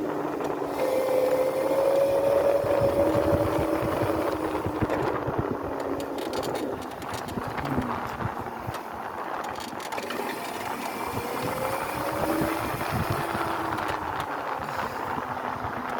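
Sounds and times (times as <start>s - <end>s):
electric motor whining: 0.0s - 8.3s, 10.0s - 15.9s
rough rumbling from riding: 0.0s - 15.9s.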